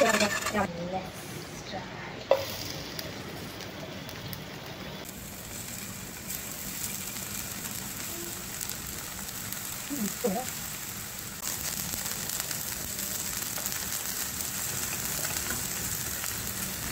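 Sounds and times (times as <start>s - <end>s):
egg sizzling in hot oil: 2.3s - 16.9s.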